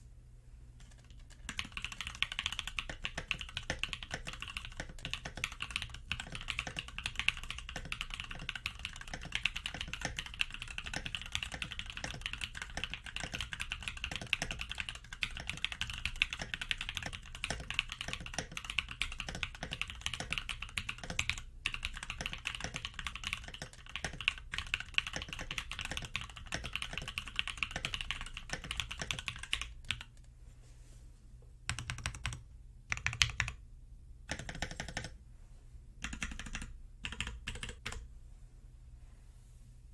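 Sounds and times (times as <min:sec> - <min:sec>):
mechanical keyboard typing: 0:00.8 - 0:30.2, 0:31.7 - 0:33.6, 0:34.3 - 0:35.2, 0:36.0 - 0:38.0.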